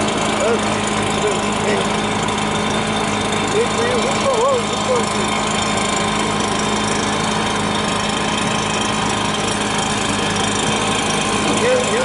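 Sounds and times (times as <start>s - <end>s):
small blower engine droning: 0.0s - 12.0s.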